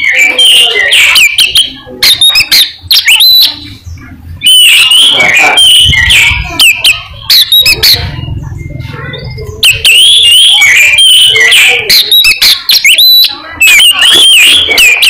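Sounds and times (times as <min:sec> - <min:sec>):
magpie-robin singing: 0:00.0 - 0:15.0.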